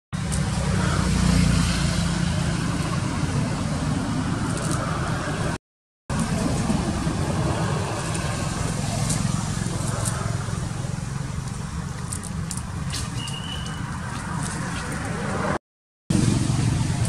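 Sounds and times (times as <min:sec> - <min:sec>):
low engine rumble: 0:00.2 - 0:17.0.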